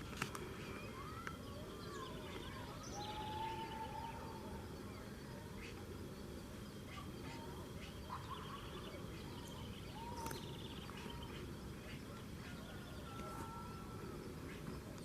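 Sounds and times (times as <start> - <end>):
birds chirping and trilling: 0.0 - 15.0
low background noise: 0.0 - 15.0.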